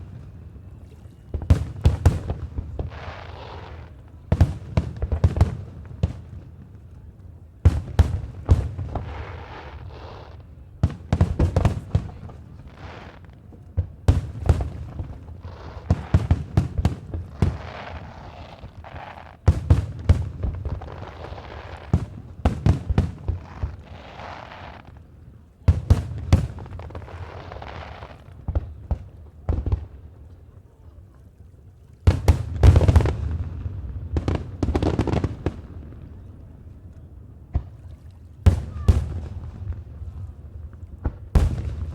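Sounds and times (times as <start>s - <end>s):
fireworks bursting with deep bangs: 0.0s - 6.8s, 7.6s - 25.0s, 25.6s - 30.0s, 32.1s - 36.6s, 38.4s - 41.9s.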